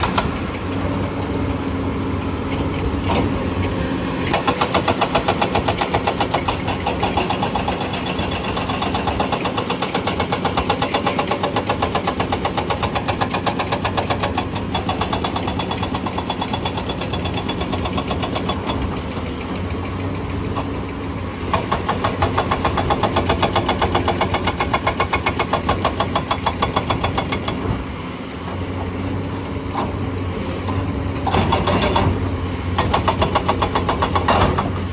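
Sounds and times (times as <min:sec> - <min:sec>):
hydraulic breaker hammering rock: 0:00.0 - 0:01.4, 0:03.0 - 0:20.8, 0:21.4 - 0:29.0, 0:29.7 - 0:34.9
diesel engine running: 0:00.0 - 0:34.9.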